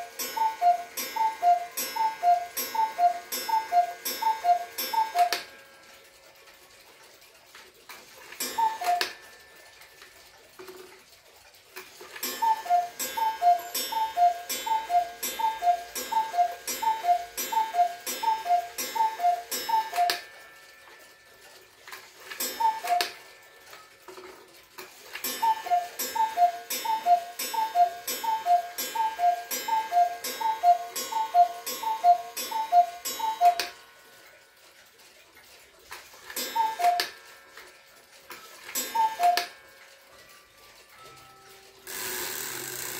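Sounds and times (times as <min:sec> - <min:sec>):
clock mechanism click: 0:00.0 - 0:42.9
cuckoo clock call: 0:00.0 - 0:42.9.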